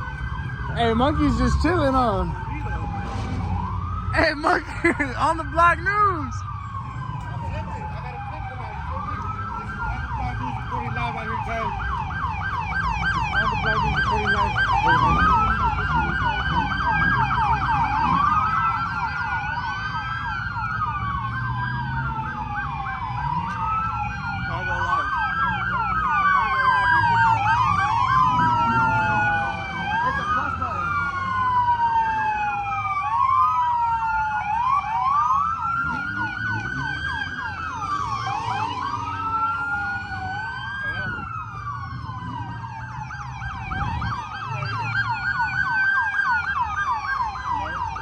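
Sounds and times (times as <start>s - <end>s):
low traffic rumble: 0.0s - 48.0s
police siren wail: 0.0s - 48.0s
police siren yelp: 0.0s - 48.0s.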